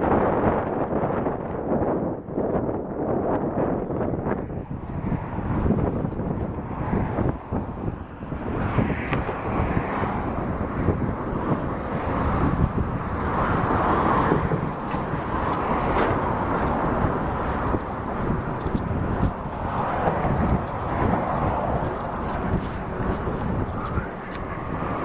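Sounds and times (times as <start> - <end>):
road noise: 0.0 - 25.0
rushing wind: 0.0 - 25.0.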